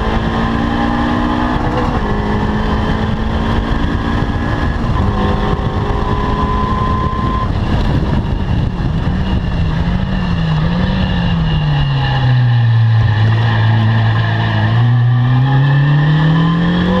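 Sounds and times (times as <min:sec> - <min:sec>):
car engine revving: 0:00.0 - 0:17.0
wind and road noise: 0:00.0 - 0:17.0.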